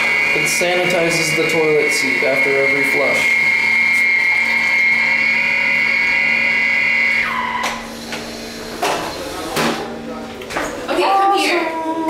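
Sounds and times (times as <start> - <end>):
toilet seat motor whining: 0.0 - 12.0.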